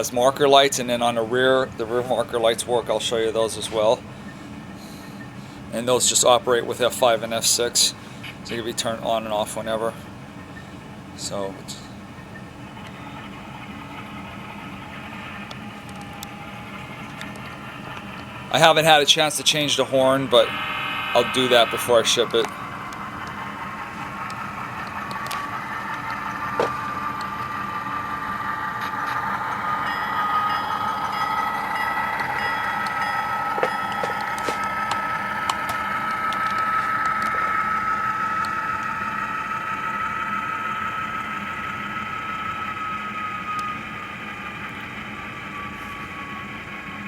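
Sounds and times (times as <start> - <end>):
model locomotive engine whine: 0.0 - 47.0.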